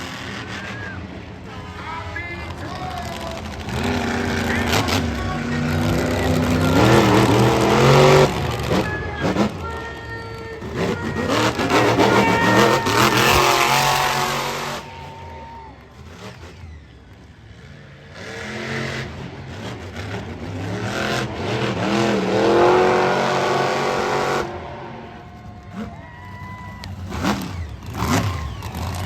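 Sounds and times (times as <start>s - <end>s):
monster truck engines revving: 0.0s - 29.0s.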